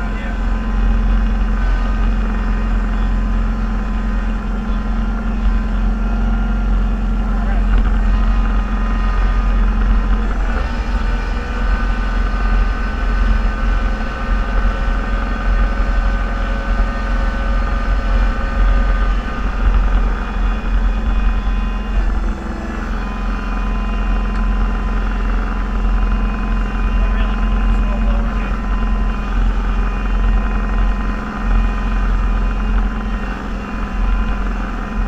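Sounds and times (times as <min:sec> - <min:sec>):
snowplow engine droning: 0:00.0 - 0:35.0
whining tones: 0:00.0 - 0:35.0.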